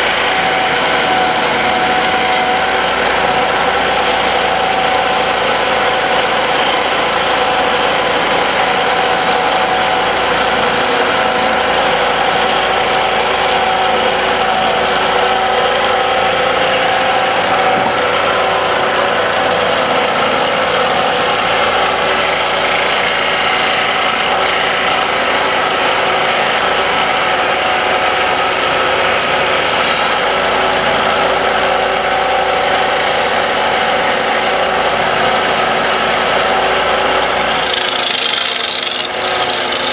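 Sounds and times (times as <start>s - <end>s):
lathe motor humming: 0.0s - 39.9s
tool scraping spinning wood: 0.0s - 39.9s.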